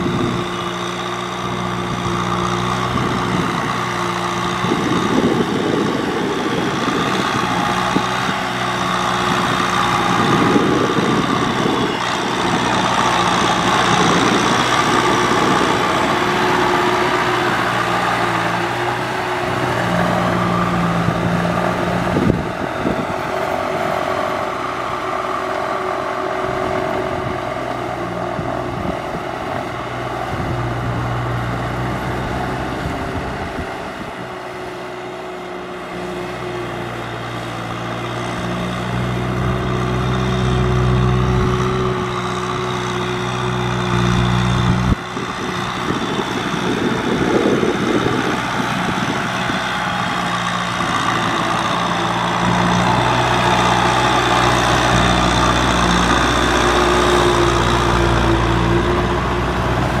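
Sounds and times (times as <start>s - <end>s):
tractor diesel engine under load: 0.0s - 60.0s.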